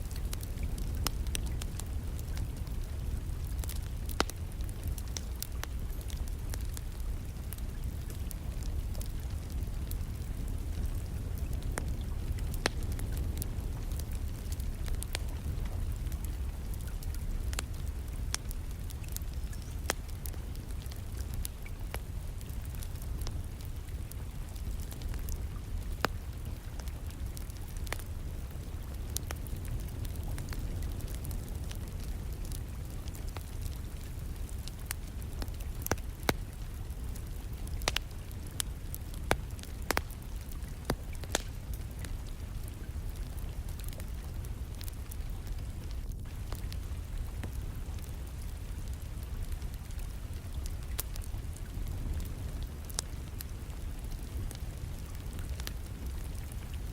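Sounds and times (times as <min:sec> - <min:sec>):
soft rain: 0:00.0 - 0:56.9
wood fire crackling: 0:00.0 - 0:56.9.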